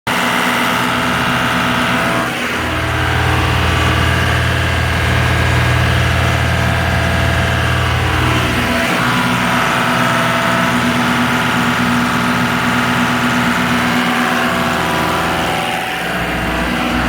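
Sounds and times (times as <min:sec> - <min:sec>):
engine running: 0:00.1 - 0:17.0
deep low hum: 0:00.4 - 0:17.0.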